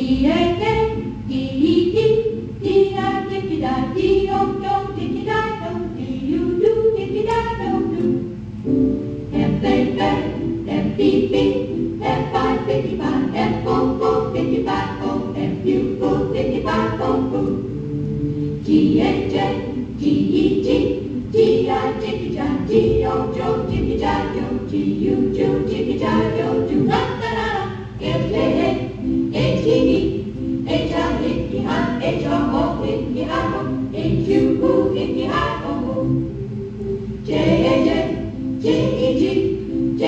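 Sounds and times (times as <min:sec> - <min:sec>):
group singing in harmony: 0:00.0 - 0:08.4, 0:09.1 - 0:40.0.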